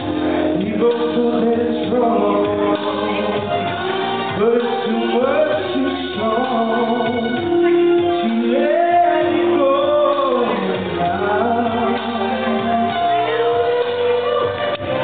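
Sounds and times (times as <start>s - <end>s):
man singing into a microphone: 0.0s - 14.7s
recorded backing track: 0.0s - 15.0s.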